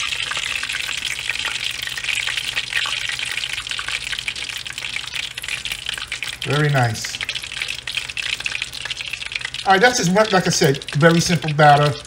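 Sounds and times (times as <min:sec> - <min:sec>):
cooking oil sizzling in a skillet: 0:00.0 - 0:12.0.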